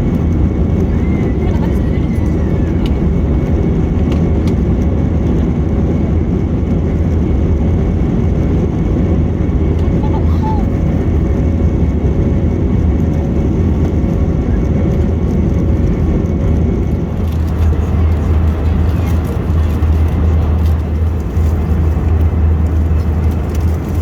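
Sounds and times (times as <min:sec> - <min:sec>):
airliner cabin engine drone: 0:00.0 - 0:24.0.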